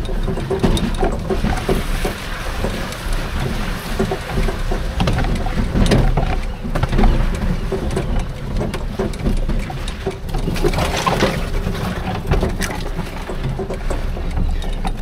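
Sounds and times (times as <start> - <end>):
golf cart driving rumble: 0.0 - 15.0
rattles and knocks: 0.0 - 15.0.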